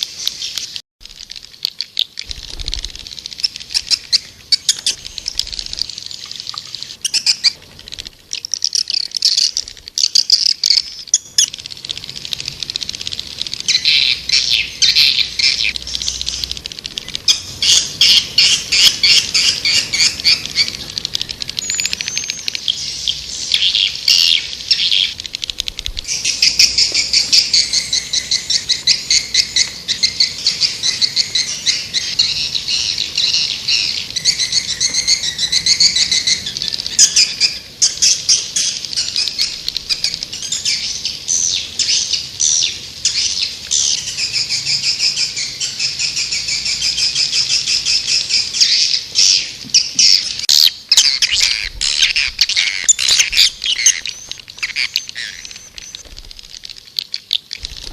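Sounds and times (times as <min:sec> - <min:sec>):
swiftlets chirping and trilling: 0:00.0 - 0:57.9.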